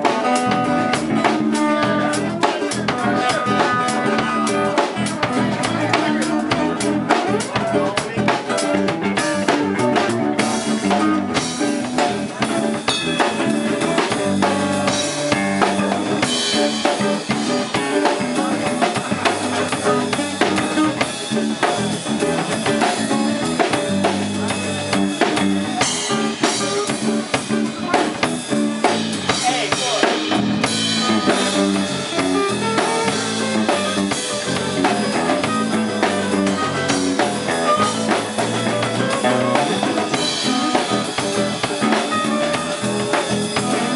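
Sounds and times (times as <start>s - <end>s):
bass guitar: 0.0s - 43.9s
drum kit beat: 0.0s - 43.9s
guitars: 0.0s - 43.9s.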